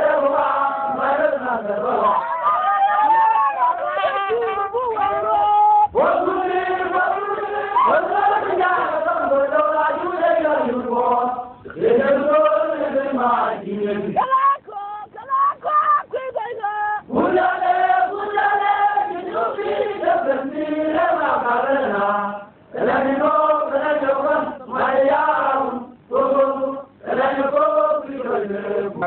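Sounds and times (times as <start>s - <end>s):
voices chanting: 0.0s - 29.0s.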